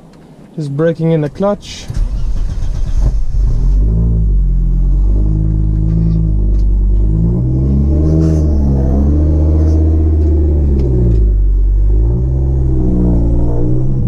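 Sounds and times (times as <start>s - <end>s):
car engine pulling away: 1.9s - 14.0s.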